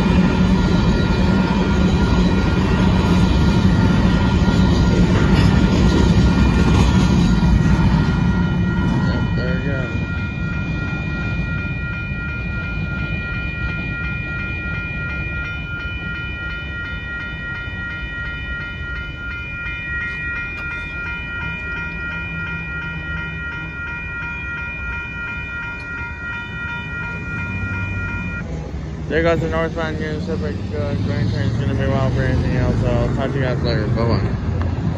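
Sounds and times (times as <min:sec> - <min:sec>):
railroad crossing bell ringing: 0:00.0 - 0:34.9
train cars rumbling: 0:00.0 - 0:34.9.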